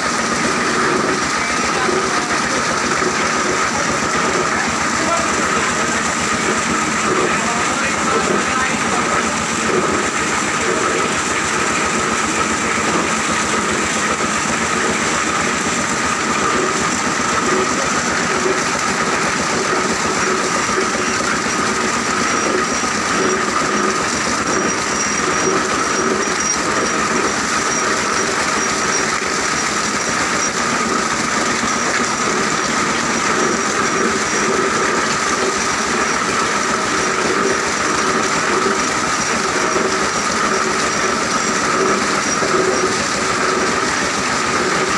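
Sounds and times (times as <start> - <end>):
machinery clattering: 0.0 - 44.9
machinery whine: 0.0 - 44.9.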